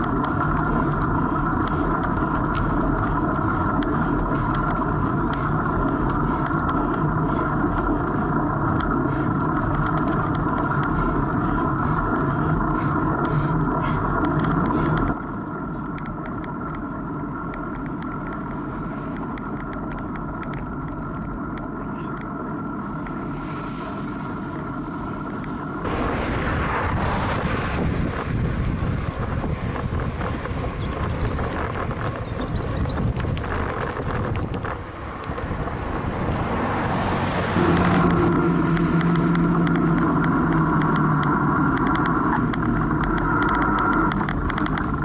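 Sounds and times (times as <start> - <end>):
wind on microphone: 0.0 - 15.2, 23.0 - 45.0
road noise: 0.0 - 45.0
steady hum: 0.0 - 45.0.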